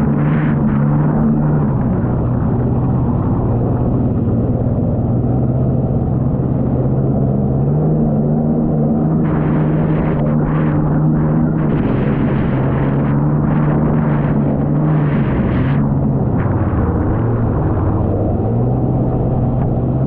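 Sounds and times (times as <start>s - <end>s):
jet ski engine running: 0.0s - 20.0s.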